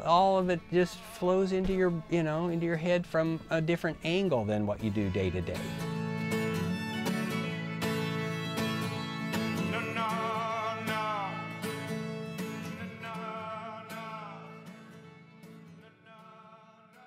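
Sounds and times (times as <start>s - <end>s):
country acoustic guitar music: 0.0s - 17.0s.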